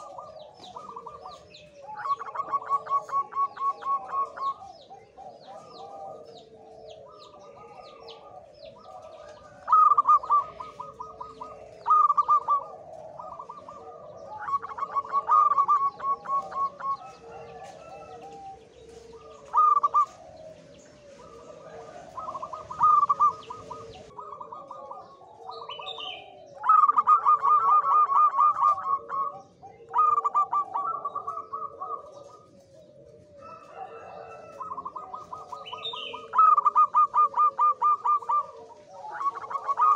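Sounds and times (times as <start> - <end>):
birds chattering and chirping: 0.0 - 39.9
dove cooing staccato notes: 0.0 - 39.9.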